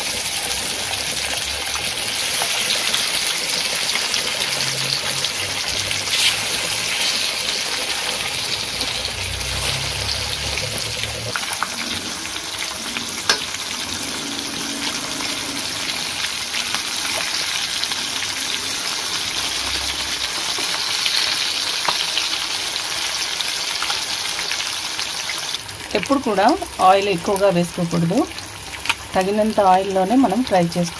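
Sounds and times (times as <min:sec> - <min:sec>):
fish sizzling in hot oil: 0:00.0 - 0:30.9.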